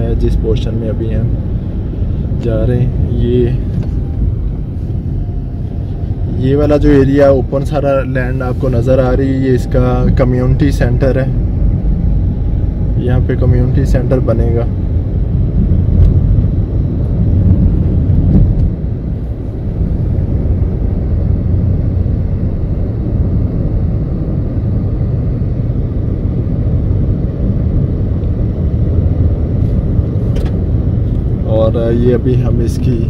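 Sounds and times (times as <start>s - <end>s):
car driving road rumble: 0.0s - 33.0s.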